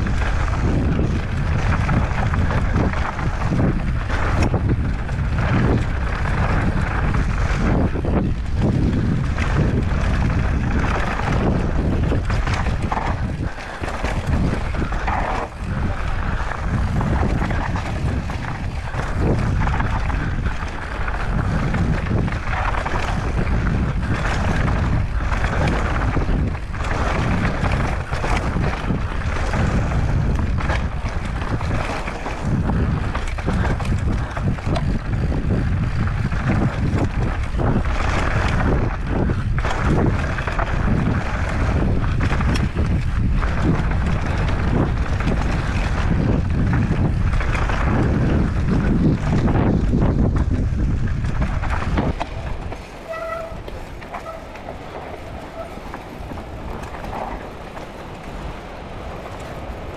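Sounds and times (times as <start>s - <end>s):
bike knocks and clatters: 0.0s - 58.4s
tyres over rocky ground: 0.0s - 59.9s
wind rumbling on microphone: 0.0s - 59.9s.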